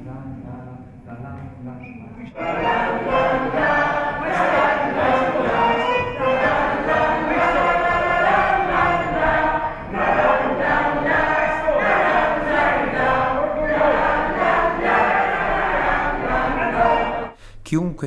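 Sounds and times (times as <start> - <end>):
choir singing: 2.4 - 17.4.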